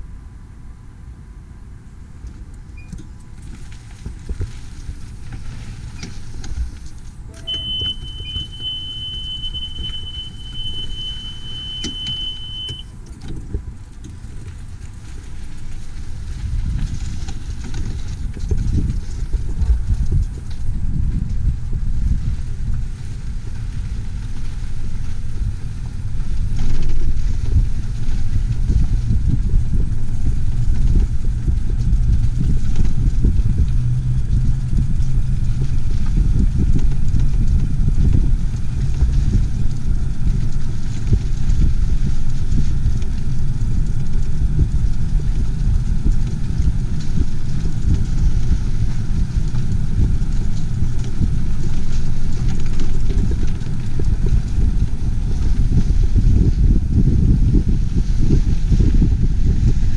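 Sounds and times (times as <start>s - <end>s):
road noise: 0.0s - 59.9s
vehicle engine rumble: 0.0s - 59.9s
wind noise: 1.5s - 59.9s.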